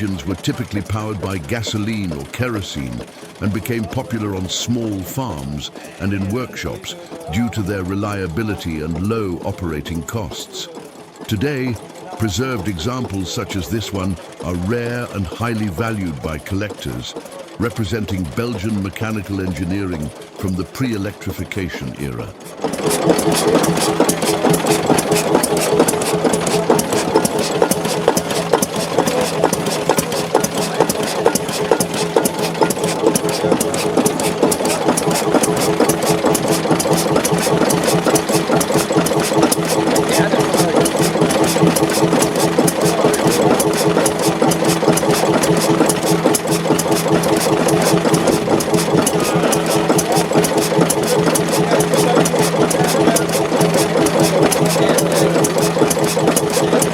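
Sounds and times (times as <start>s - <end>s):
stationary engine idling: 0.0s - 56.9s.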